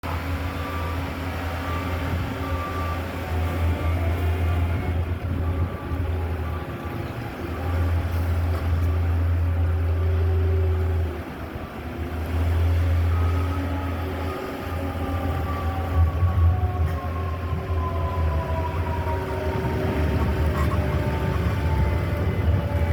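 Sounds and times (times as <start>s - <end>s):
truck engines rumbling: 0.0s - 22.9s.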